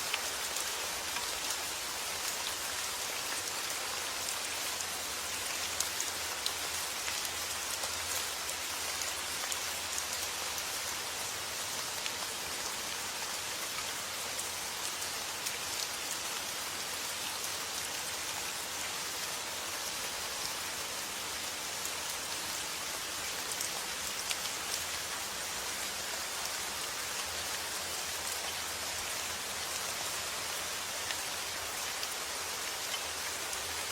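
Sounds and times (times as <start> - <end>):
rain falling: 0.0 - 33.9
raindrops ticking on a surface: 0.0 - 33.9.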